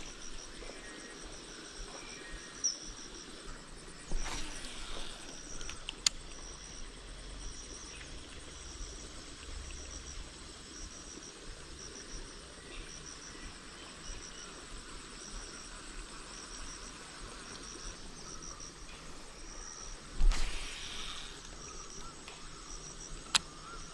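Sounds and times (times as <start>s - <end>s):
crickets chirping: 0.0s - 23.9s
faint steady hiss: 0.0s - 23.9s.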